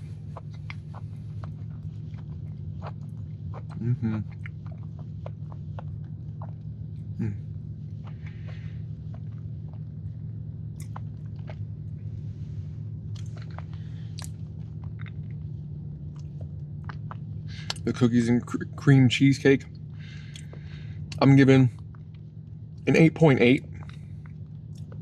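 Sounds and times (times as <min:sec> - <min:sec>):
person chewing: 0:00.0 - 0:18.5, 0:19.7 - 0:25.0
low background hum: 0:00.0 - 0:25.0
low voice hum: 0:00.0 - 0:25.0.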